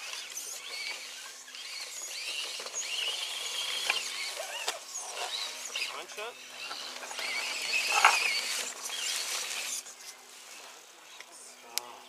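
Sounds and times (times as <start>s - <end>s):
electric motor and gears whining: 0.0s - 11.2s.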